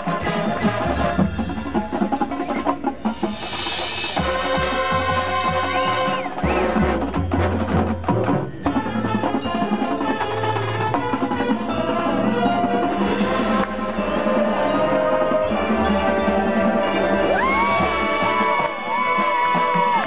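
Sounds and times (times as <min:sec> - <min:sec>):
marching band playing: 0:00.0 - 0:20.0
percussion: 0:00.0 - 0:20.0.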